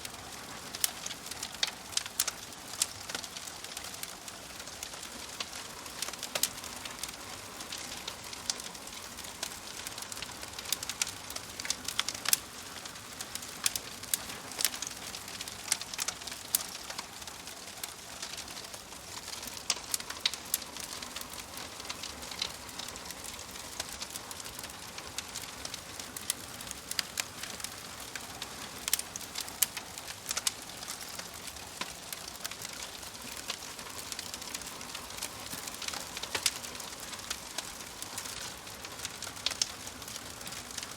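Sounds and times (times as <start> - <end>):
fire crackling: 0.0 - 40.9.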